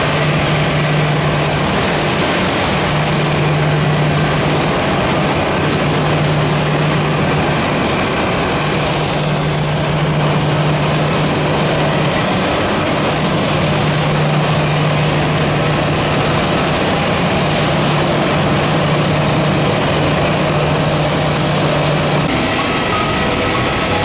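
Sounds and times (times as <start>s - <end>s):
jet airliner engine running: 0.0s - 24.0s.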